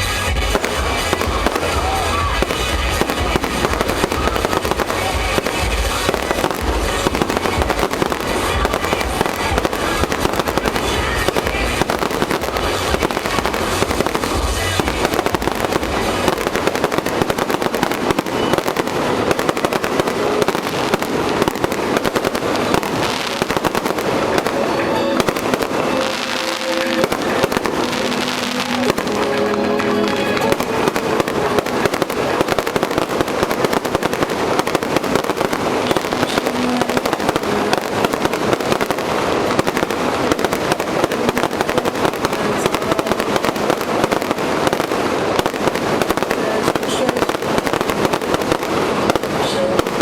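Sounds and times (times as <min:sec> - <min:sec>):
fireworks crackling: 0:00.0 - 0:50.0
music with heavy bass beat: 0:00.0 - 0:50.0.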